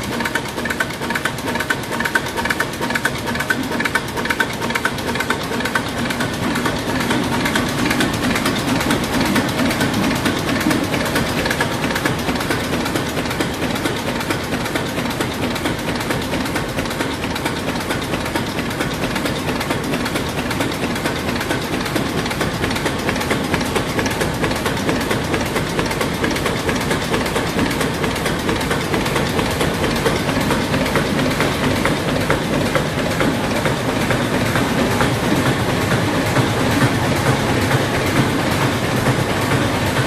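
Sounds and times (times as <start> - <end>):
stationary engines clattering: 0.0 - 40.0.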